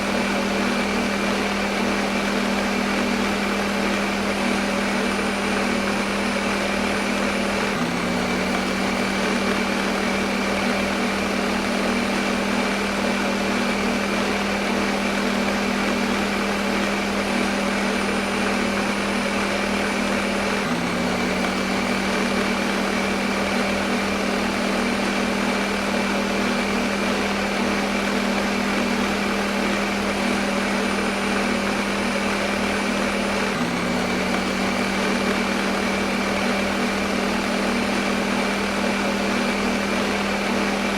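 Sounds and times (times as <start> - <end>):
blender motor whirring: 0.0 - 40.9.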